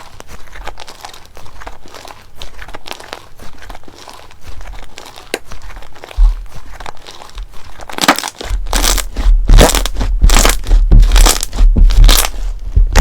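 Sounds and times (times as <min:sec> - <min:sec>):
slime crackling and popping: 0:00.0 - 0:13.0.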